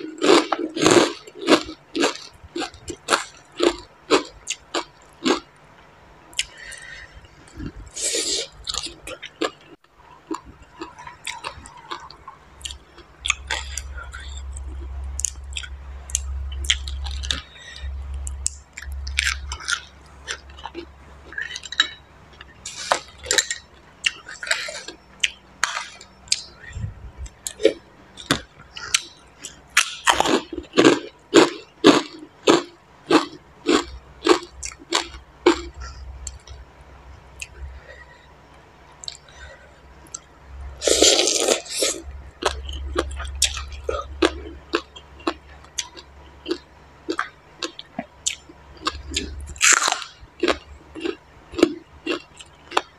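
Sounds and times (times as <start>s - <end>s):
chewing and crunching: 0.0s - 5.6s, 6.3s - 36.6s, 37.3s - 52.9s.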